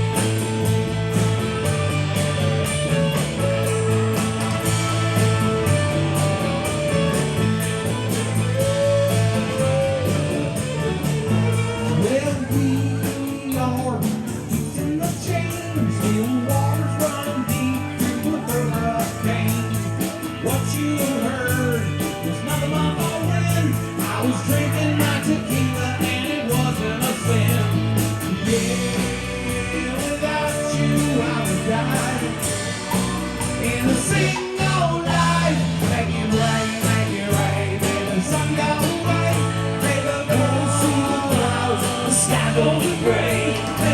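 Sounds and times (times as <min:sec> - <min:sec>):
guitar: 0:00.0 - 0:43.9
steady bass line: 0:00.0 - 0:43.9
person singing: 0:08.6 - 0:43.9.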